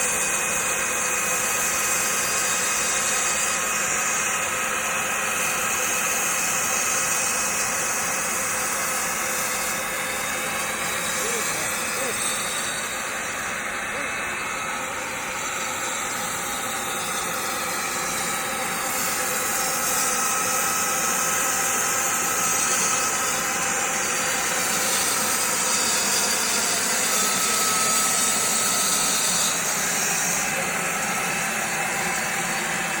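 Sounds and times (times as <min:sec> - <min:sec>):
machine noise with hiss: 0:00.0 - 0:33.0.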